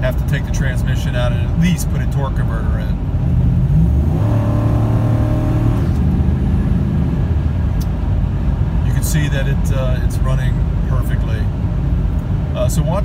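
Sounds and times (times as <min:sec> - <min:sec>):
pickup engine under throttle: 0:00.0 - 0:12.6
road rumble: 0:00.0 - 0:13.0.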